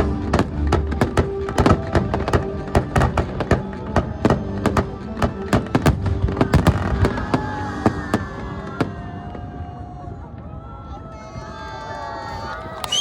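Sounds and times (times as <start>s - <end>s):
music: 0.0s - 11.4s.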